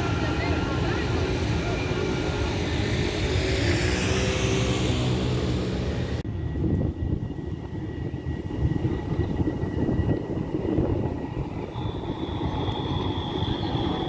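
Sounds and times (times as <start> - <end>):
tram passing: 0.0 - 14.0.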